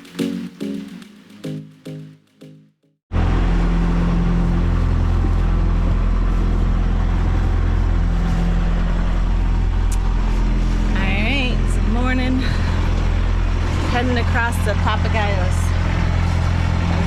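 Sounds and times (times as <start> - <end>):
boat engine humming: 3.1 - 17.0.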